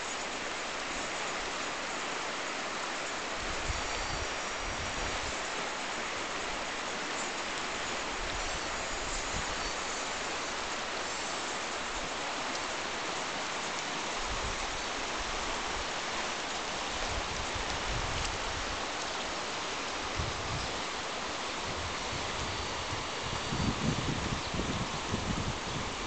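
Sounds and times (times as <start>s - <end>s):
river rushing over stones: 0.0s - 26.0s.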